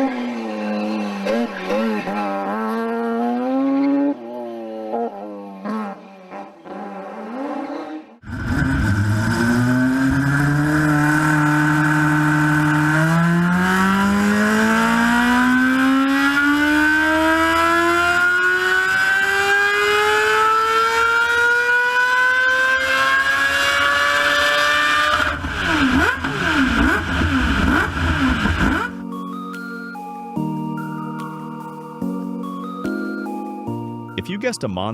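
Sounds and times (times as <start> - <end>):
race car rotary engine: 0.0 - 29.0.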